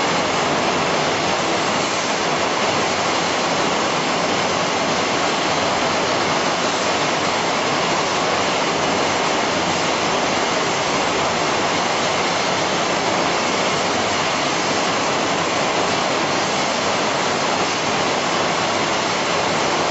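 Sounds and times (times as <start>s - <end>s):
steady rushing hiss: 0.0s - 19.9s.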